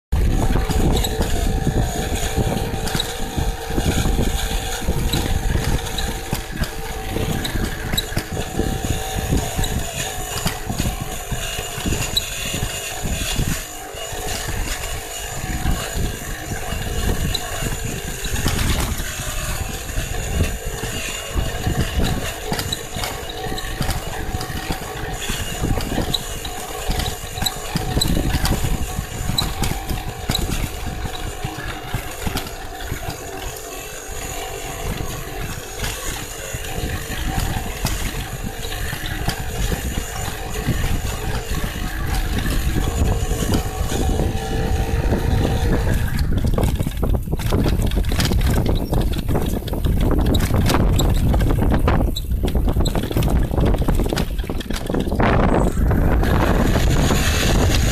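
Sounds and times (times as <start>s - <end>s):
electric bike motor whining: 0.1s - 57.9s
tyres on dirt: 0.1s - 57.9s
wind rumble: 0.1s - 57.9s.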